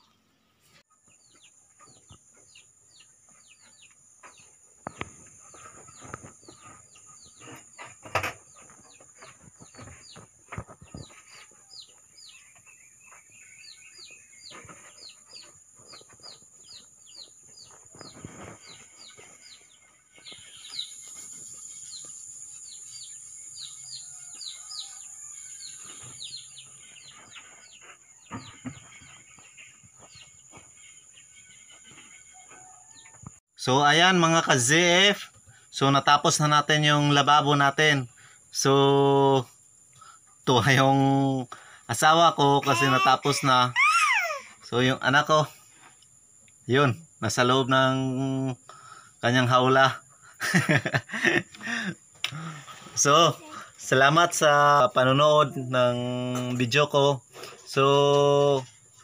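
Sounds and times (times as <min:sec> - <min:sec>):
chicks peeping: 0:00.9 - 0:33.9, 0:39.0 - 0:59.0.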